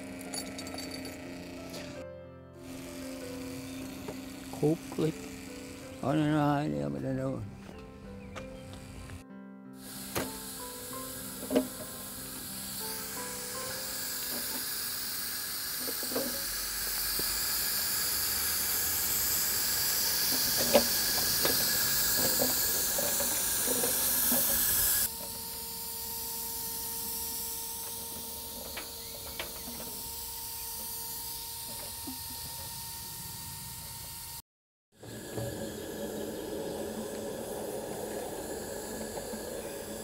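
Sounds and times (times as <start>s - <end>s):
model steam locomotive hissing: 2.6s - 6.5s, 9.8s - 34.4s, 35.0s - 40.0s.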